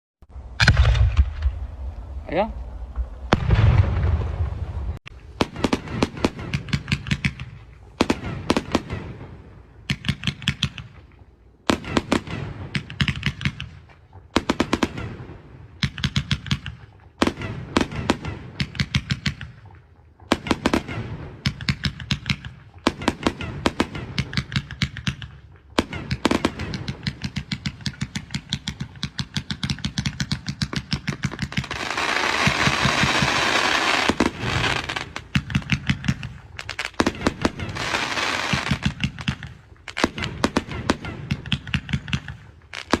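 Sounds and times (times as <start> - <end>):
fireworks bangs and crackle: 0.3 - 43.0.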